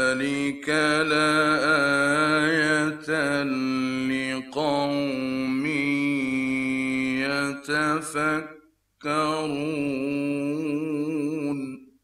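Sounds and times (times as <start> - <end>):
man chanting melodically: 0.0 - 11.8.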